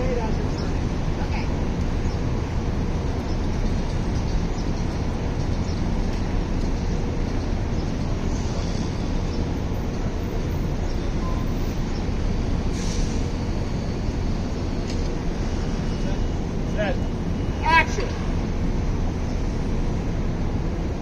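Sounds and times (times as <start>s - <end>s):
city background rumble: 0.0s - 21.0s.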